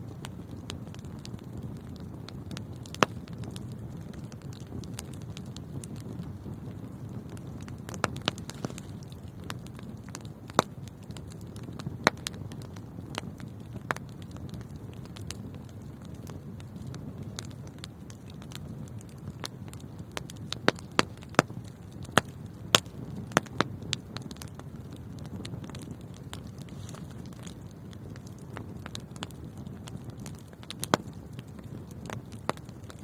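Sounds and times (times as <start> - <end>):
fire crackling and popping: 0.0 - 33.0
fire rumbling: 0.0 - 33.0.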